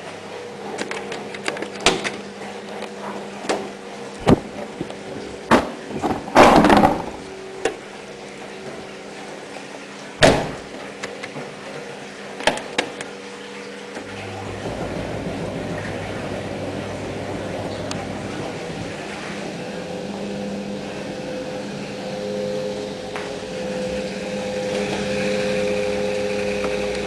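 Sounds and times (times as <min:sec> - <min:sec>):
washing machine humming: 0:00.0 - 0:27.0.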